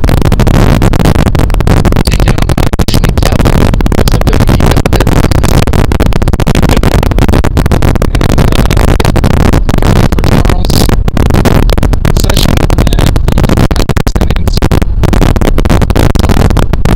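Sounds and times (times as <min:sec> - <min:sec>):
wind blasting on microphone: 0:00.0 - 0:16.9.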